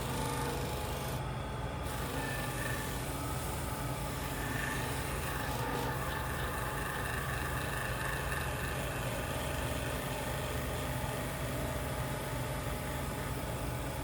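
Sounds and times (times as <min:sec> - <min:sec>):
woodworking machine humming: 0:00.0 - 0:14.0.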